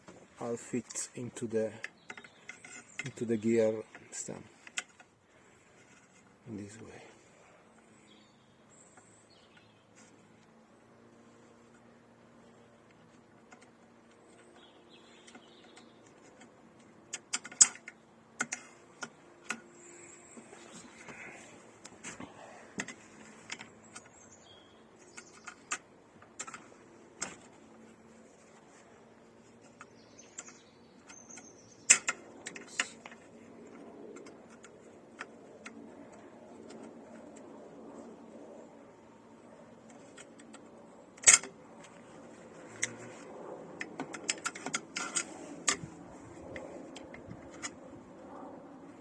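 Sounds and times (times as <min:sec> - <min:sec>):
clicks and knocks of parts handled: 0:00.1 - 0:06.8, 0:11.7 - 0:24.3, 0:24.9 - 0:38.1, 0:39.7 - 0:47.9.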